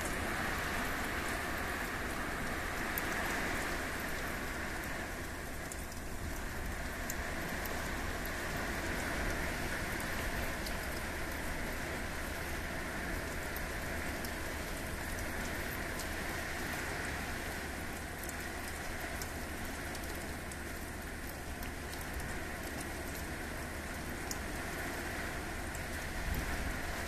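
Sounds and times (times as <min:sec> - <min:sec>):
heavy rain: 0:00.0 - 0:27.0
raindrops ticking close by: 0:00.0 - 0:27.0.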